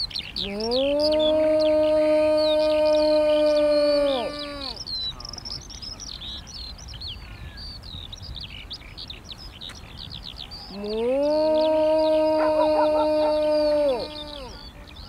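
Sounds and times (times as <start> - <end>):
low wind rumble: 0.0 - 15.0
songbirds chirping and warbling: 0.0 - 15.0.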